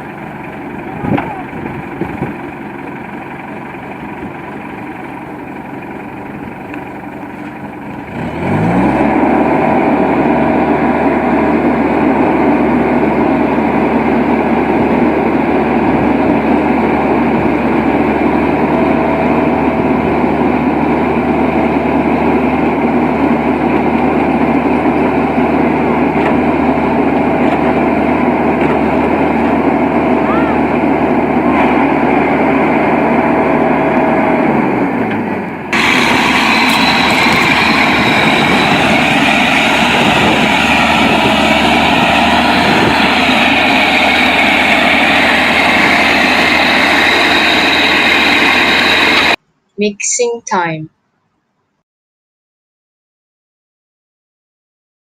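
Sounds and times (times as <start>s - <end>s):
heavy truck engine revving: 0.0s - 49.4s.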